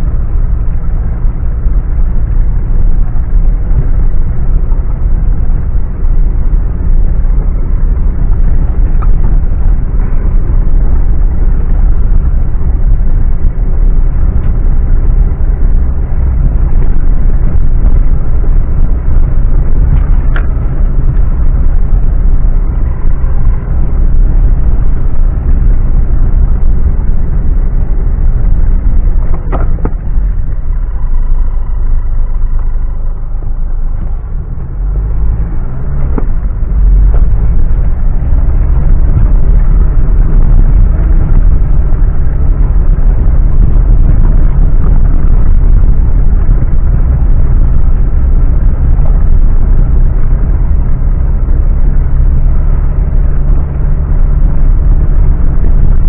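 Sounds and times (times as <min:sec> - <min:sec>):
engine rumbling under load: 0:00.0 - 0:56.0.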